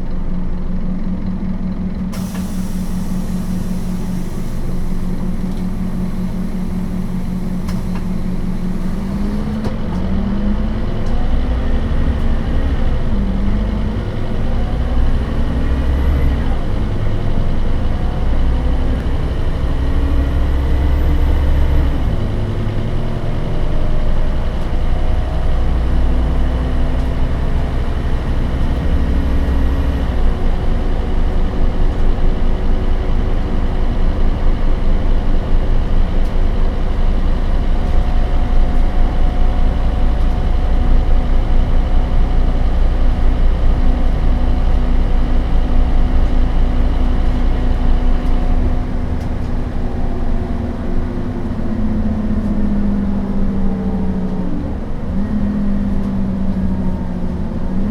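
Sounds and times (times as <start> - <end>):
bus diesel engine pulling: 0.0 - 57.9.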